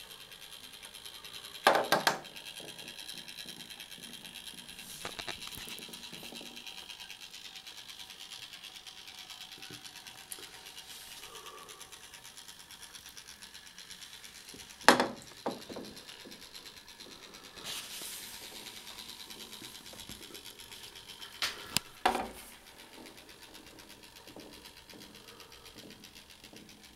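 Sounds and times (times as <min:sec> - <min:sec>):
clockwork toy boat motor whirring: 0:00.0 - 0:26.9.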